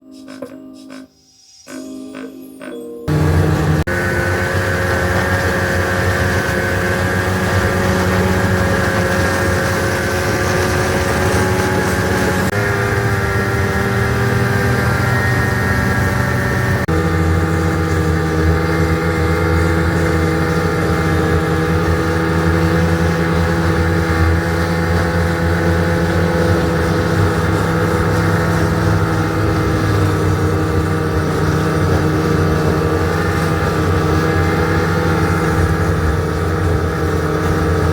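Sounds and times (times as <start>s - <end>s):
vehicle engine running: 3.1s - 37.9s.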